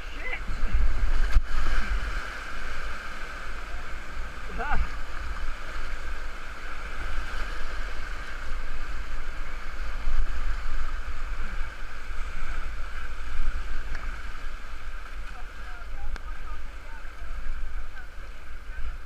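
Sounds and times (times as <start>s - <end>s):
rapids roaring: 0.0s - 19.0s
wind buffeting microphone: 0.0s - 19.0s.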